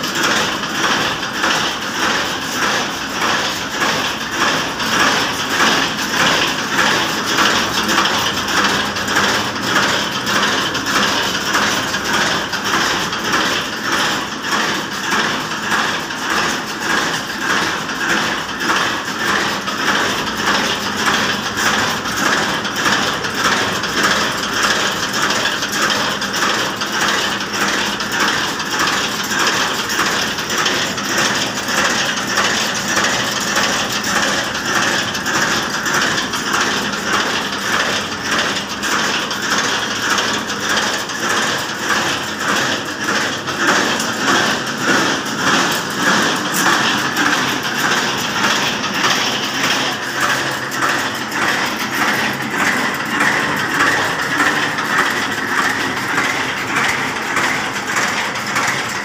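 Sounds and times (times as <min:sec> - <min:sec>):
wire machine clattering rapidly: 0:00.0 - 0:59.0.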